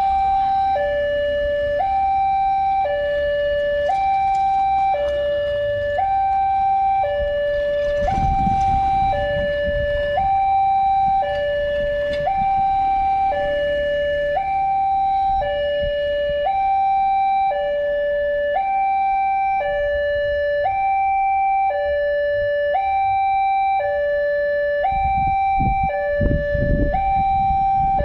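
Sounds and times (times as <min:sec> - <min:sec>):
two-tone crossing alarm: 0:00.0 - 0:28.0.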